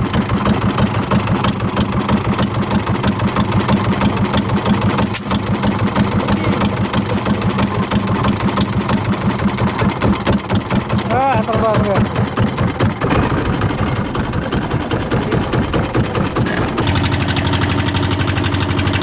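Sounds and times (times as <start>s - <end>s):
boat engine puttering: 0.0s - 19.0s.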